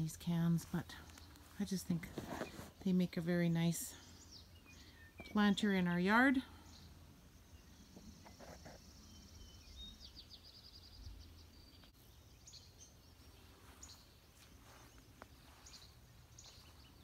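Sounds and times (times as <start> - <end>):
songbirds trilling and chirping: 0.0 - 17.0.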